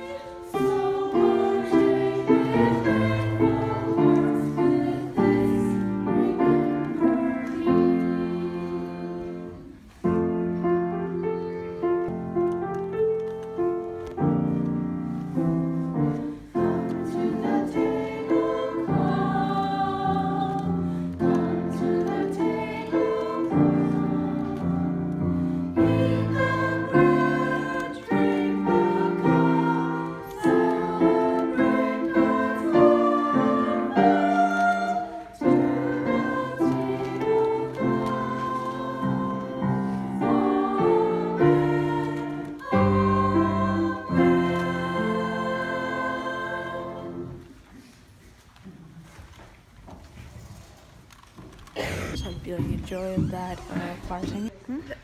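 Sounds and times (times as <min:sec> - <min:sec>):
piano accompaniment: 0:00.0 - 0:47.6
church choir singing in parts: 0:00.0 - 0:48.0.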